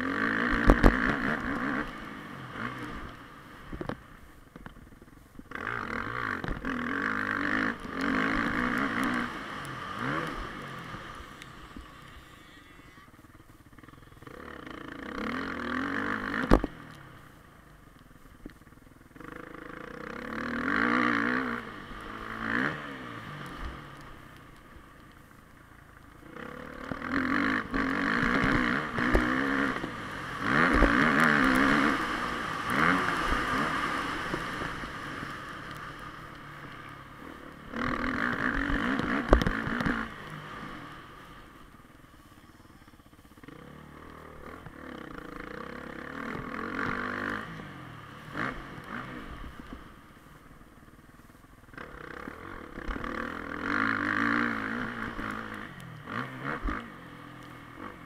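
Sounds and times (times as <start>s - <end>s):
dirt bike engine revving: 0.0s - 3.9s, 5.5s - 17.3s, 19.1s - 24.9s, 25.8s - 50.0s, 51.7s - 58.0s.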